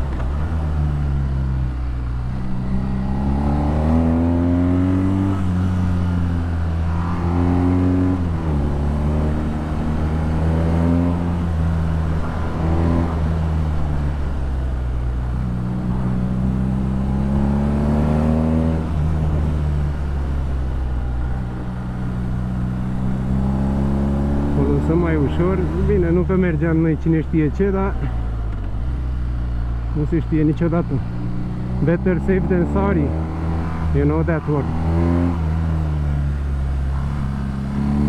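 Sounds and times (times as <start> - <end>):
motorcycle engine shifting gears: 0.0 - 38.0.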